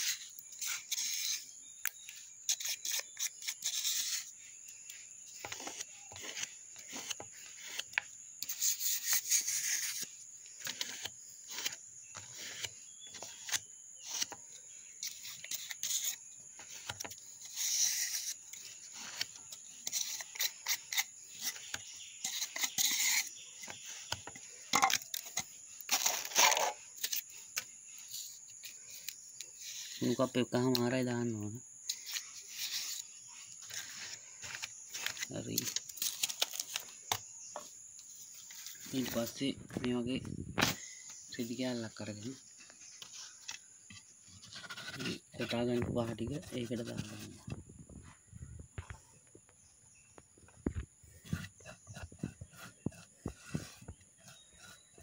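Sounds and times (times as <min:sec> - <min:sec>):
paste scraping in plastic cups: 0:00.0 - 0:31.0, 0:31.8 - 0:39.4, 0:41.1 - 0:47.6, 0:51.1 - 0:55.0
crickets chirring: 0:00.0 - 0:55.0.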